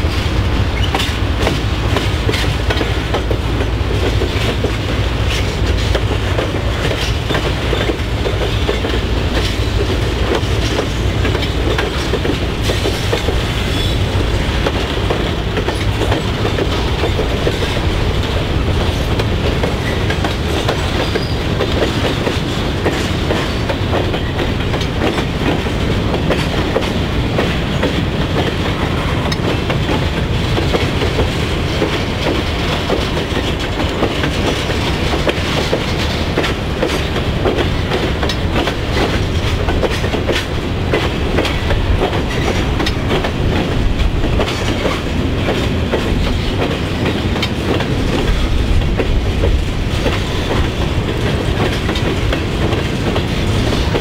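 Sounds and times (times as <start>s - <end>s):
freight train rumbling: 0.0s - 54.0s
wheels clacking over rail joints: 0.0s - 54.0s.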